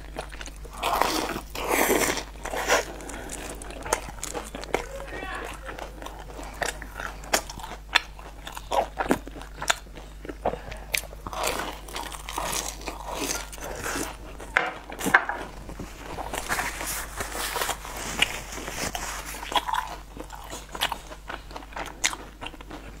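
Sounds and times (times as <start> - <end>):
crunching snack: 0.0 - 15.1, 16.0 - 23.0.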